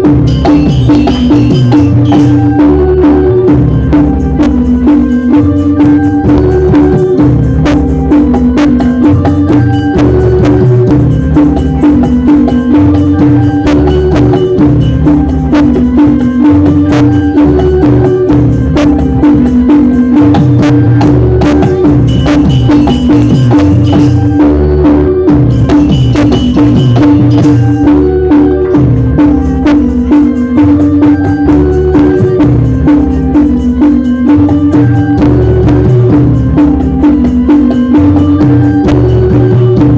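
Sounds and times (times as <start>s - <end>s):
drums: 0.0s - 39.9s
pulsing bass line: 0.0s - 39.9s
repeating melodic figure: 0.0s - 39.9s
wood-block percussion: 0.0s - 39.9s.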